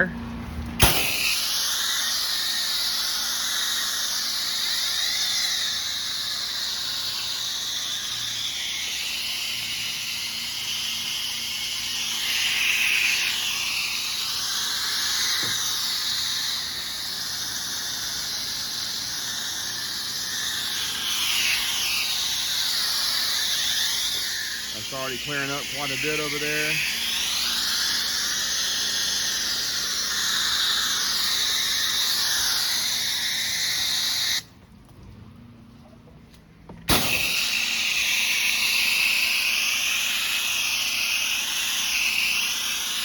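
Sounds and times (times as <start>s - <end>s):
pressure washer spraying: 0.8s - 34.5s, 36.9s - 43.0s.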